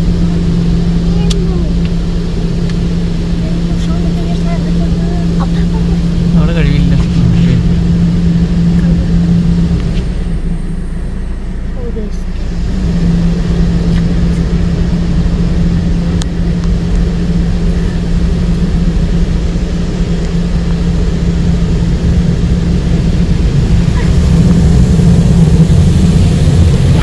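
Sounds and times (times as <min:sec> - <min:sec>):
car wash water jets: 0:00.0 - 0:27.0
wash machinery humming: 0:00.0 - 0:27.0.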